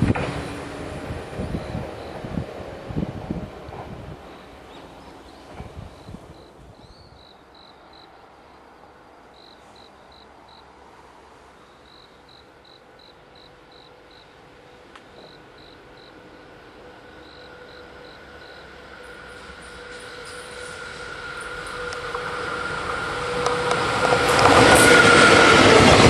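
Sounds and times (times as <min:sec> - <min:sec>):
freight train approaching: 0:00.0 - 0:26.0
insects chirping: 0:04.2 - 0:25.6.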